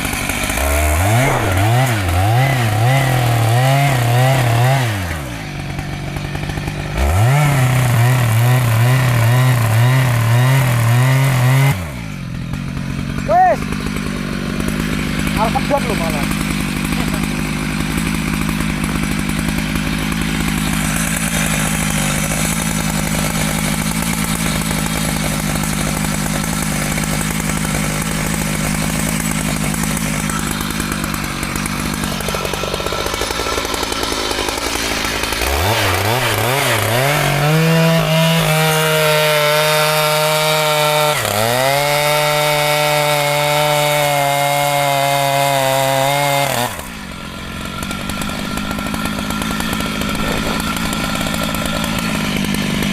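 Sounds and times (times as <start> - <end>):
chainsaw running and revving: 0.0 - 52.9.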